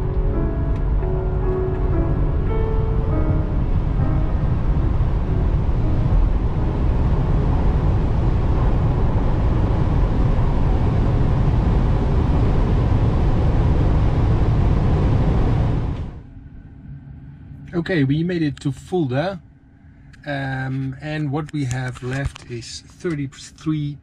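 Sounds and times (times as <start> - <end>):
road and wind noise in car: 0.0 - 24.0.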